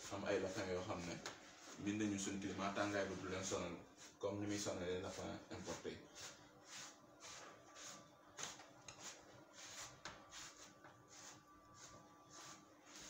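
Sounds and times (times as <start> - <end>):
brush strokes through fur: 0.0 - 13.0.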